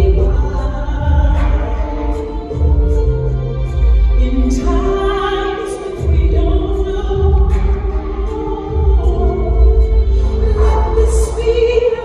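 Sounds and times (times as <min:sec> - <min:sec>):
keyboard accompaniment: 0:00.0 - 0:12.0
person singing: 0:00.0 - 0:12.0.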